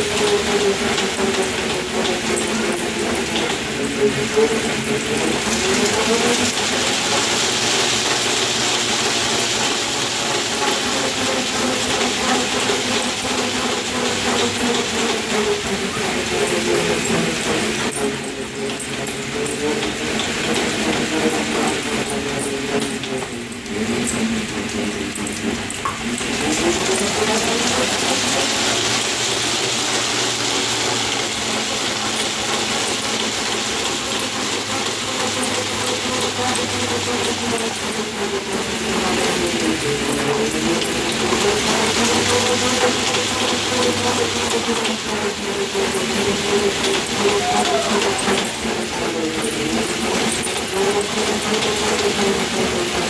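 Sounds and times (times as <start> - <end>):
slat mill clattering: 0.0 - 53.0
treadmill belt whirring: 0.0 - 53.0.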